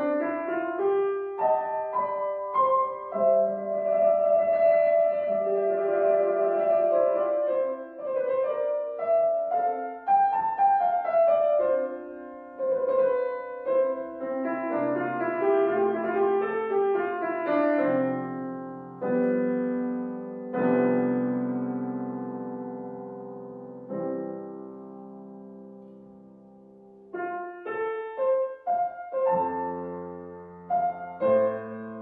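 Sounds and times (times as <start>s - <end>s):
gentle solo piano music: 0.0s - 32.0s.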